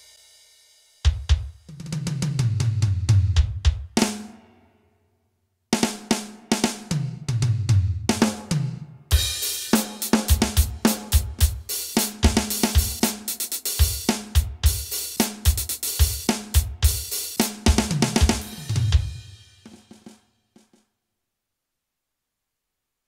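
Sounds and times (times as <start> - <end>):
drum beat of kick snare and cymbals: 0.0 - 4.5, 5.8 - 20.8
electronic drum tom fill: 1.0 - 4.5, 5.8 - 20.8.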